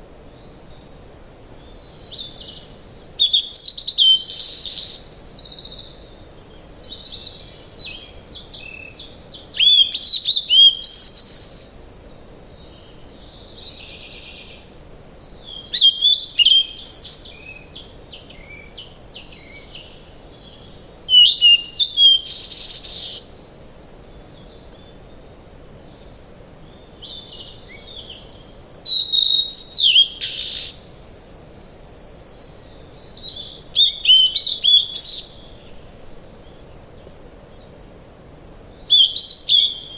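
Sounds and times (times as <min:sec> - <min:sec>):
soft steady hiss: 0:00.0 - 0:39.9
bird chirps and trills: 0:01.2 - 0:24.8, 0:26.6 - 0:36.6.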